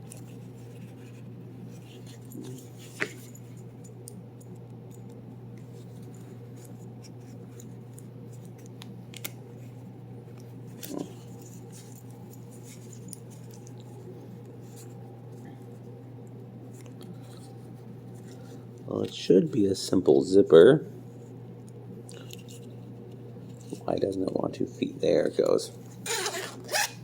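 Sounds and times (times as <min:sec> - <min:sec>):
cable sleeves clicking and rustling: 0:00.0 - 0:19.3, 0:21.6 - 0:27.0.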